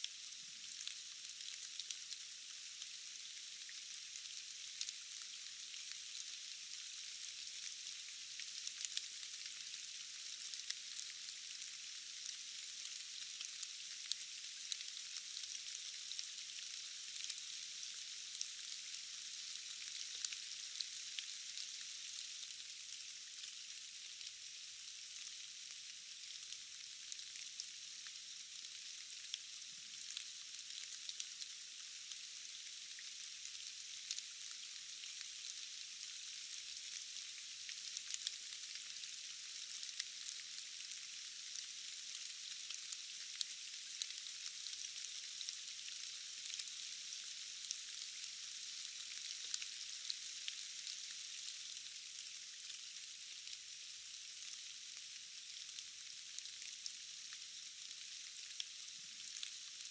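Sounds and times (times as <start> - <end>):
rain hissing in forest: 0.0 - 59.9
raindrops ticking on leaves: 0.0 - 59.9.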